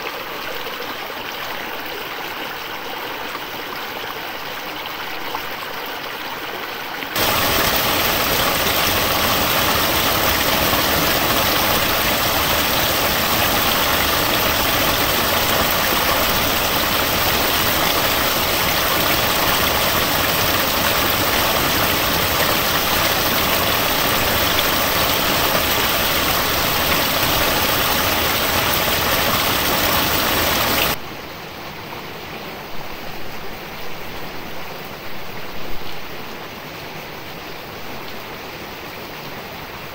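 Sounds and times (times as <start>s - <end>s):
rush of flowing water: 0.0s - 39.9s
trickling stream: 0.0s - 39.9s.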